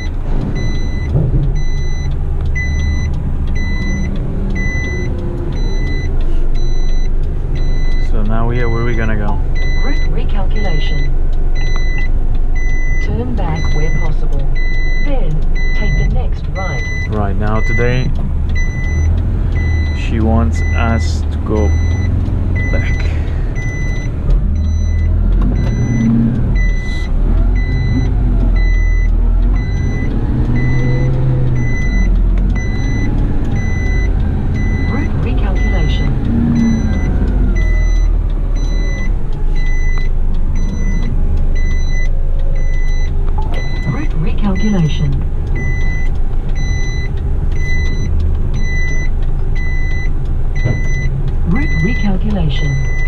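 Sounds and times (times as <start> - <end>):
truck engine running: 0.0 - 53.0
truck reversing alarm beeping: 0.0 - 53.0.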